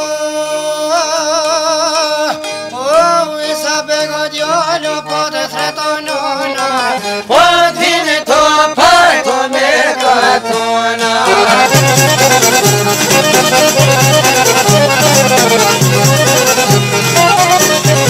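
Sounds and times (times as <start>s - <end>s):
folk music on plucked lutes: 0.0s - 18.0s.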